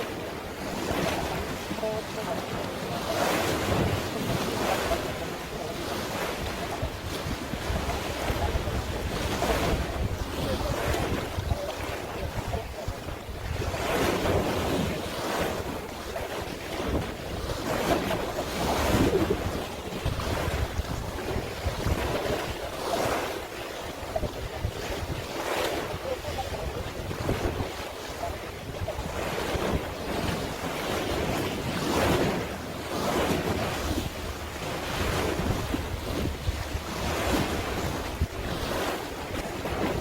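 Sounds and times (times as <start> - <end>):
sea waves washing in: 0.0 - 40.0
wind buffeting microphone: 0.0 - 40.0.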